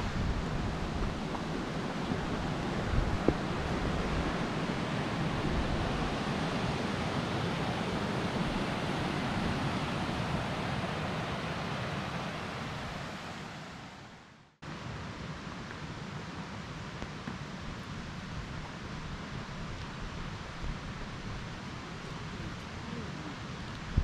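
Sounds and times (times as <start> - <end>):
rushing white water: 0.0 - 24.0.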